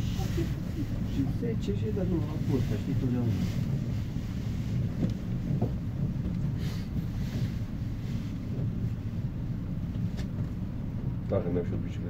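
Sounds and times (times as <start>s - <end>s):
cable car cabin rumble: 0.0s - 12.0s.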